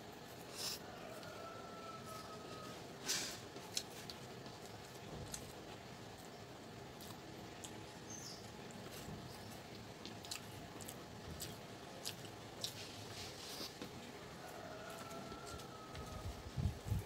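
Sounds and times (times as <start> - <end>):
person chewing food: 0.3 - 16.2.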